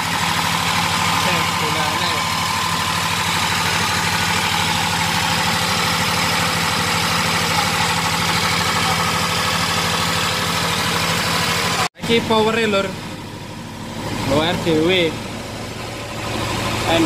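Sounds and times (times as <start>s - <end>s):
diesel generator running: 0.0s - 17.0s.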